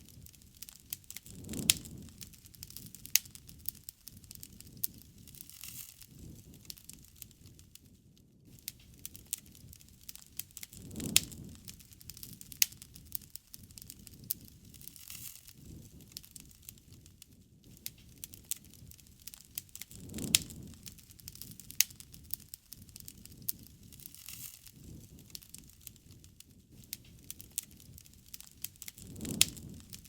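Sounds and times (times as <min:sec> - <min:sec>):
campfire crackling and popping: 0:00.0 - 0:30.0
soft whoosh of flame: 0:00.0 - 0:30.0.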